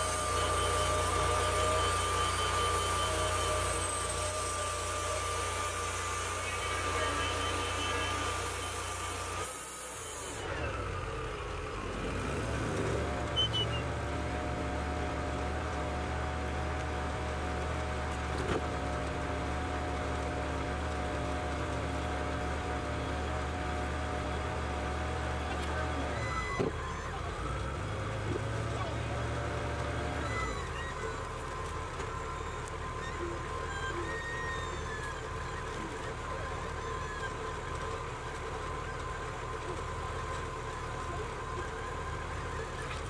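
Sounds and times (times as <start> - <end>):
sawmill engine droning: 0.0 - 43.0.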